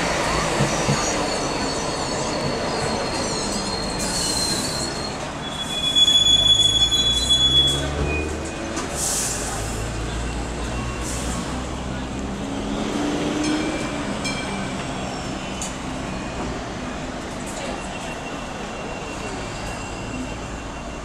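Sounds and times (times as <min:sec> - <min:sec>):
rail car rumbling: 0:00.0 - 0:21.0
train wheels squealing on rails: 0:00.0 - 0:21.0.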